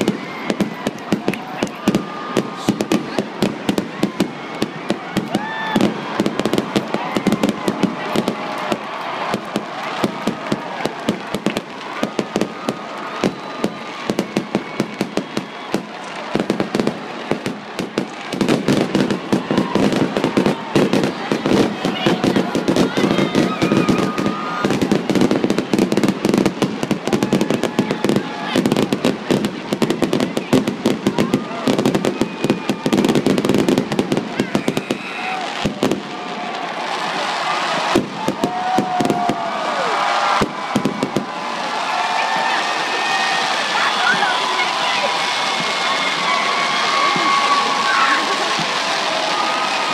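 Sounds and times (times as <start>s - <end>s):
crowd cheering: 0.0s - 49.9s
fireworks crackling bangs and pops: 0.0s - 49.9s.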